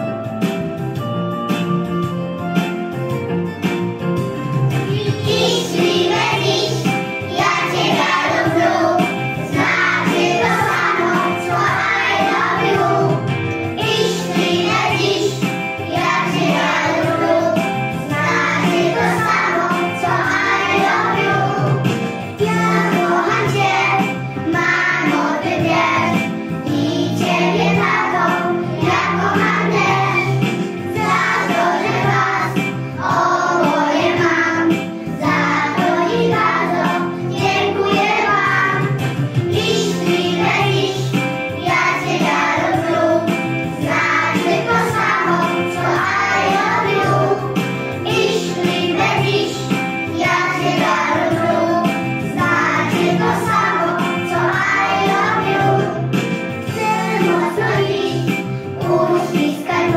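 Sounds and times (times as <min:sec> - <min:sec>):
instrumental accompaniment: 0:00.0 - 0:59.9
children singing together: 0:04.8 - 0:59.9.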